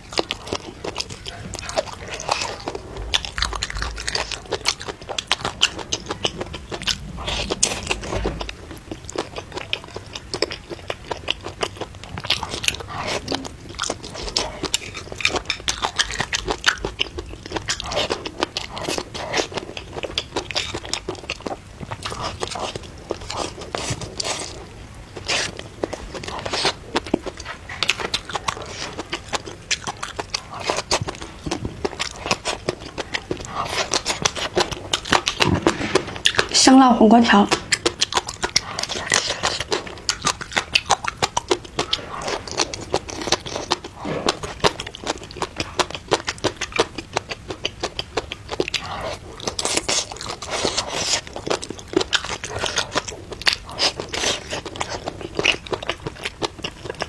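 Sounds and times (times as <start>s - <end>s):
crunchy biting and chewing: 0.0s - 36.6s, 37.5s - 57.0s.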